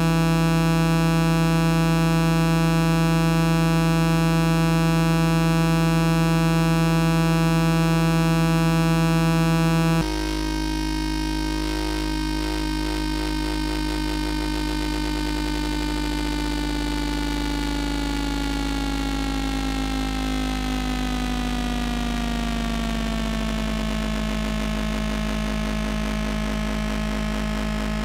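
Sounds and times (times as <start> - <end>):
synthesizer drone: 0.0 - 28.0.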